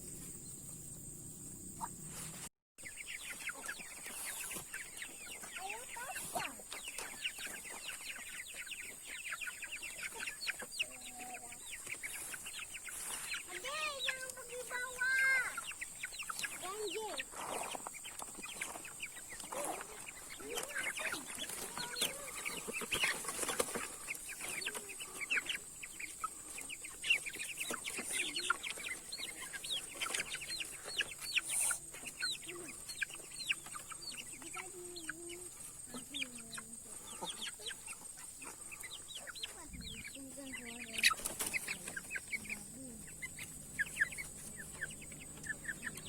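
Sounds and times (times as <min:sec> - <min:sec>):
chicks peeping: 0:00.0 - 0:46.0
chickens clucking: 0:01.5 - 0:46.0.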